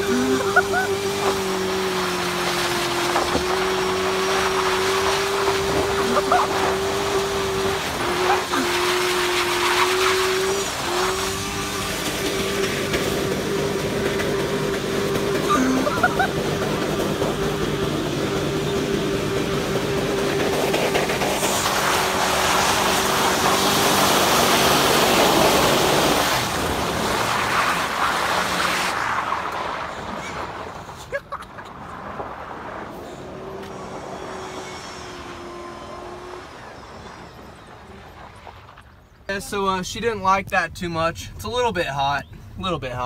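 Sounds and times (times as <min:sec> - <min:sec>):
tires spinning: 0:00.0 - 0:40.2
truck engine revving high: 0:00.0 - 0:40.2.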